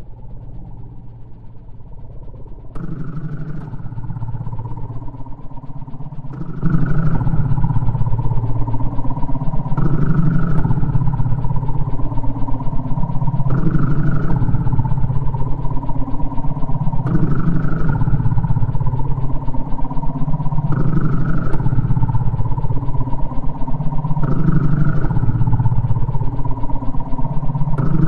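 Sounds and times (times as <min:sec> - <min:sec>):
pulsing low synth drone: 0:00.0 - 0:28.0.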